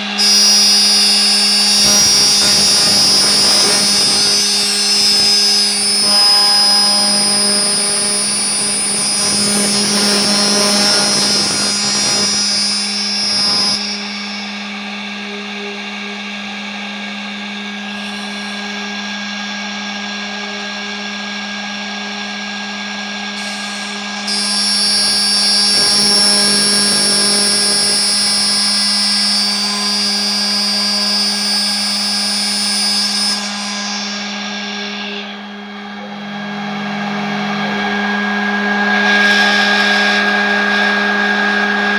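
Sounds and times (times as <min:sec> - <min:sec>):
router spindle cutting wood: 0:00.0 - 0:21.8, 0:22.6 - 0:35.4.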